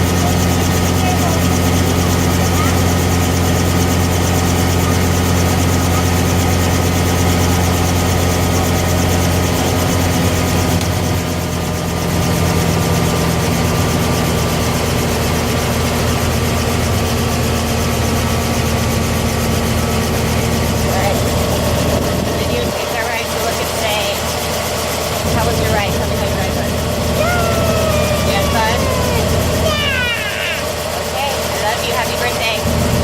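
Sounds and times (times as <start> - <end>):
helicopter engine and rotors: 0.0 - 33.0.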